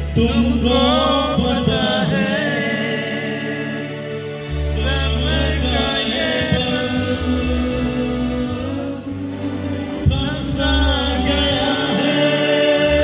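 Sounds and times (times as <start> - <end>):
man singing slow love song: 0.0 - 9.2, 10.0 - 13.0
keyboard and bass: 0.0 - 13.0.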